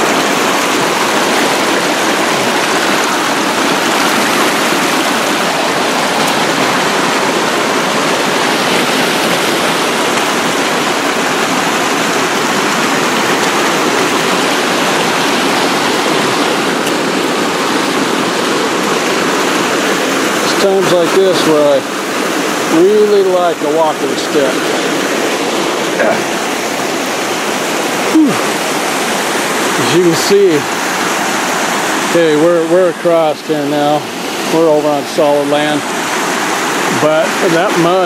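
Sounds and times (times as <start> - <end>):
rushing creek water: 0.0 - 38.0.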